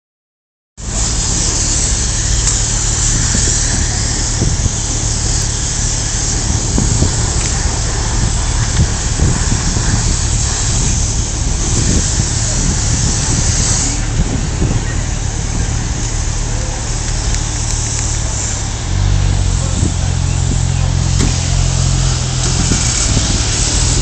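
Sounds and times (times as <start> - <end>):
car engine idling: 0.8 - 24.0
steady hiss: 0.8 - 24.0.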